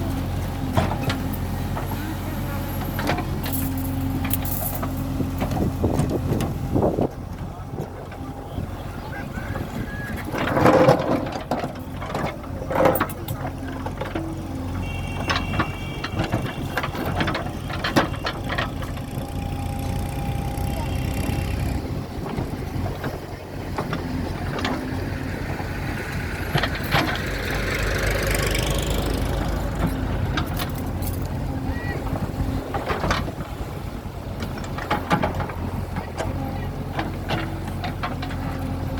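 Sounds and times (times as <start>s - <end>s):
backhoe digging soil: 0.0s - 38.9s
diesel engine running under load: 0.0s - 38.9s.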